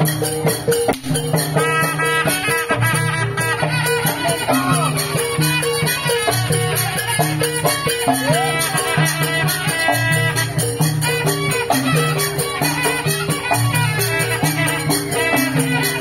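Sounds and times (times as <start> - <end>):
drums: 0.0 - 16.0
wind instrument with sliding notes: 0.0 - 16.0.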